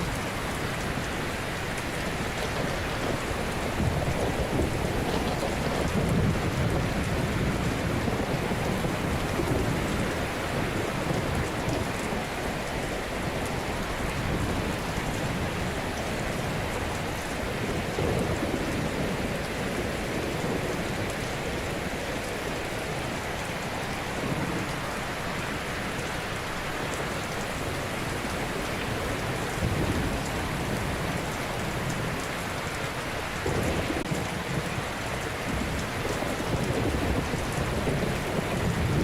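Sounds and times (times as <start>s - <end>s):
ocean waves breaking on shore: 0.0s - 39.0s.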